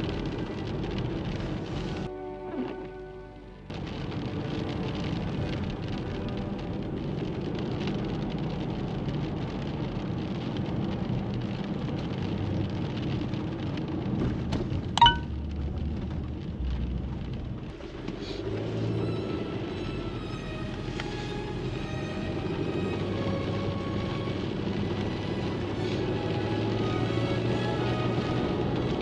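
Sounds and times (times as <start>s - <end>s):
low rumble: 0.0s - 29.0s
steady rain falling: 0.0s - 29.0s.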